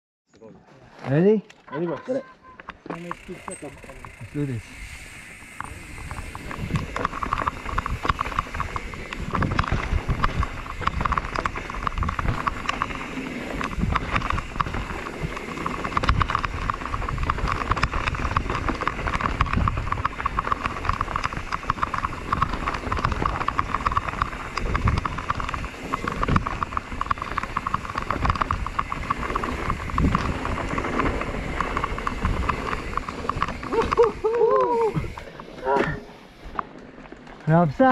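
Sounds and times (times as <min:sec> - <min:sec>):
bike rattling and clicking: 0:01.1 - 0:37.9
low thumps from rough ground: 0:05.5 - 0:37.9
wind on microphone: 0:05.6 - 0:36.1.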